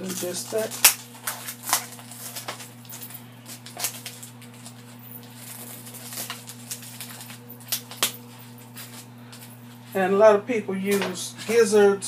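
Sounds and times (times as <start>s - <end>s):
plastic film crinkling: 0.0s - 9.9s
steady low hum: 0.0s - 12.0s.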